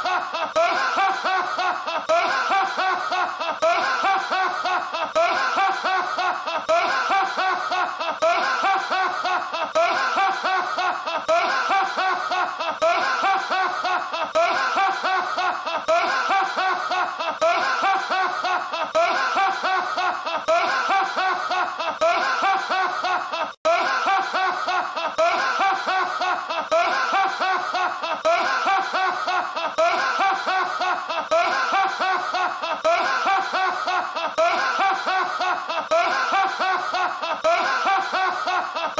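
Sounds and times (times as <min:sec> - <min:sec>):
man laughing heartily: 0:00.0 - 0:38.9.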